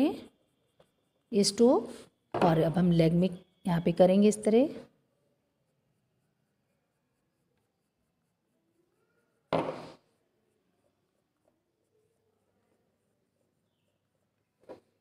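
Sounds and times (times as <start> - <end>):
charcoal pencil scratching paper: 0.0 - 15.0.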